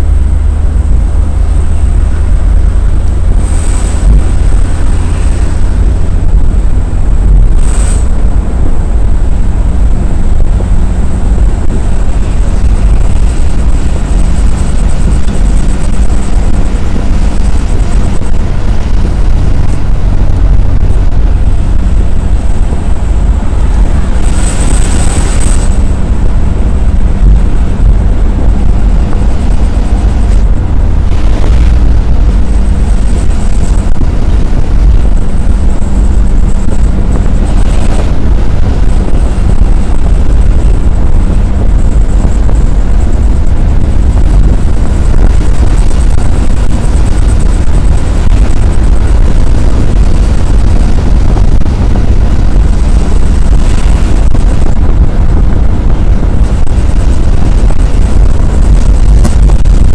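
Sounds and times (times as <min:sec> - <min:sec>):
passing vehicle rush: 0:00.0 - 0:59.9
vehicle rumble at highway speed: 0:00.0 - 0:59.9.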